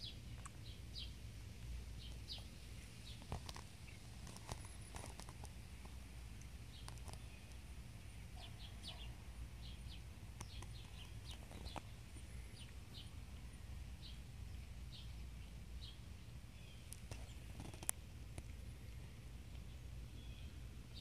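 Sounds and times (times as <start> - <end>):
low steady rumble: 0.0 - 21.0
small birds chirping: 0.0 - 21.0.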